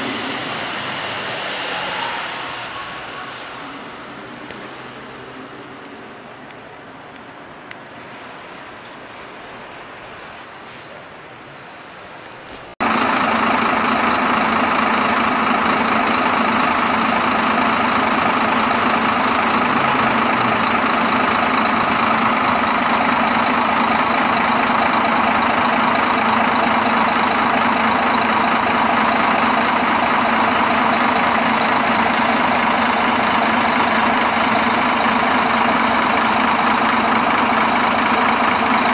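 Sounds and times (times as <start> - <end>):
diesel engine idling: 0.0 - 7.6, 12.1 - 38.9
thin high whine: 0.0 - 38.9.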